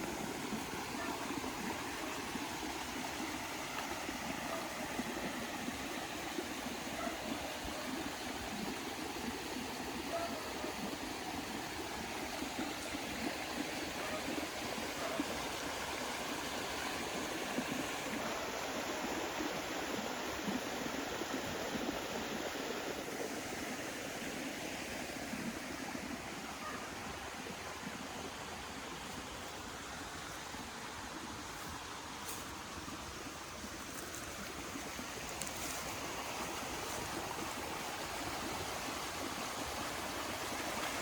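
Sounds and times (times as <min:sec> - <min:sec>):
running water rushing: 0:00.0 - 0:41.0.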